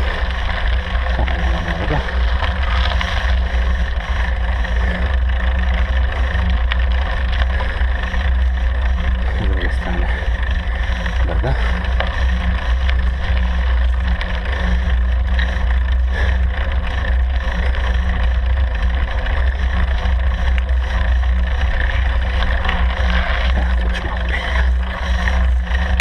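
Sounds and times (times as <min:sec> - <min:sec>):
road and vehicle noise: 0:00.0 - 0:26.0.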